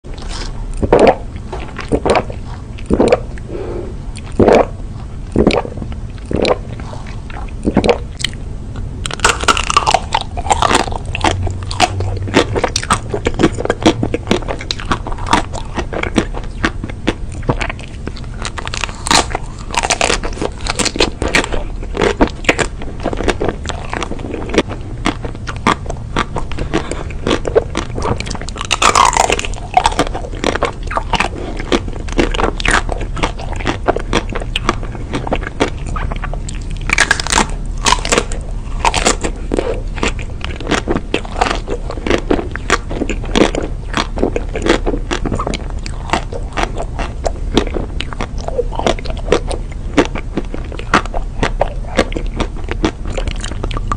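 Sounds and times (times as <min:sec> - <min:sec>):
wet chewing: 0:00.1 - 0:53.9.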